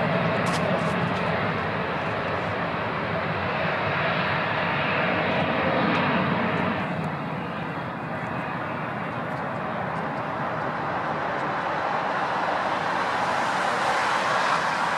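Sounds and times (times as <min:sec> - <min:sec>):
jet engines at takeoff thrust: 0:00.0 - 0:14.9.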